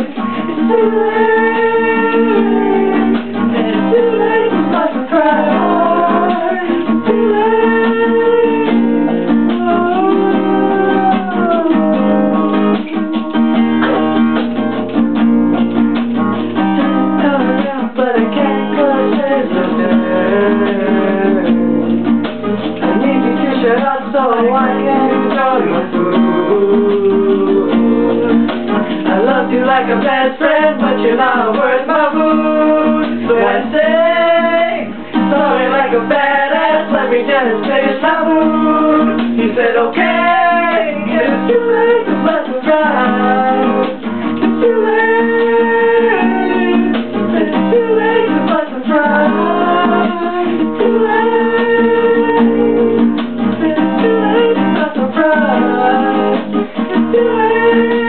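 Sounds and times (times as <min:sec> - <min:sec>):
young men singing: 0:00.0 - 0:13.0, 0:16.8 - 0:22.2, 0:22.8 - 0:58.0
acoustic guitar strumming: 0:00.0 - 0:58.0.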